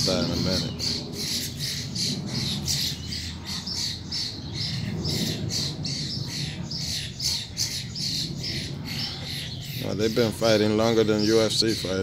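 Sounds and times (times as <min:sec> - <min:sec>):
birds squawking harshly: 0:00.0 - 0:12.0.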